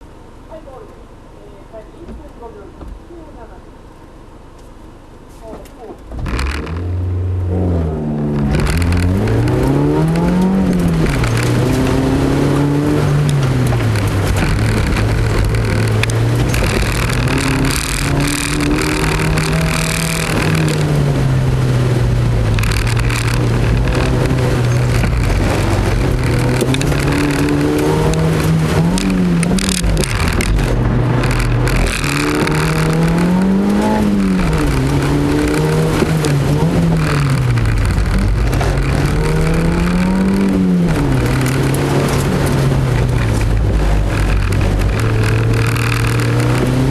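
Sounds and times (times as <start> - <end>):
car engine revving: 5.5 - 46.9.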